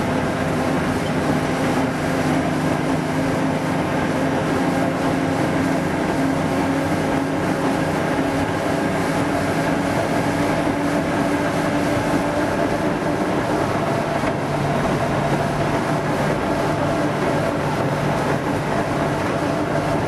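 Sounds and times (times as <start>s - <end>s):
locomotive engine running: 0.0s - 20.0s
rail vehicle rumble: 0.0s - 20.0s.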